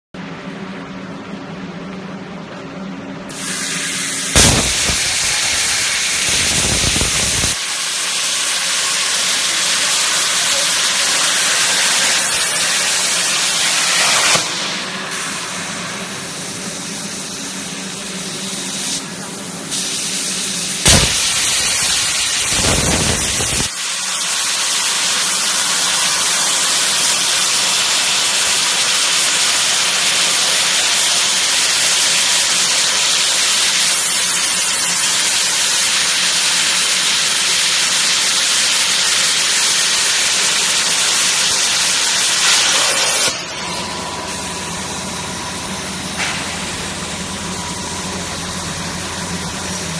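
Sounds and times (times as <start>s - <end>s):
plasma torch hissing: 3.3s - 49.9s.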